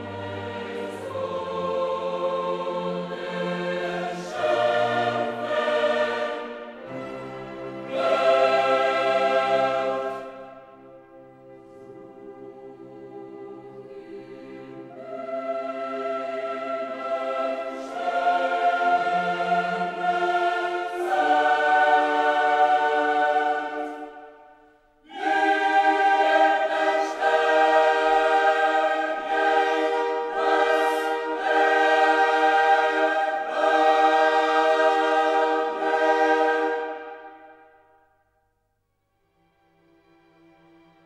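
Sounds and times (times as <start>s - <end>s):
choir singing held chords: 0.0s - 38.4s.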